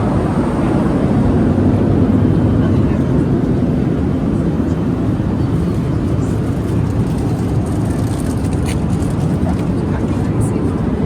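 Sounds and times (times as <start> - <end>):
airliner cabin engine and airflow noise: 0.0 - 11.0.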